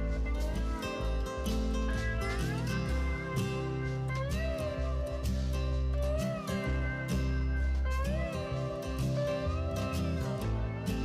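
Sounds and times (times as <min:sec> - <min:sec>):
guitar tune with sliding notes: 0:00.0 - 0:11.0.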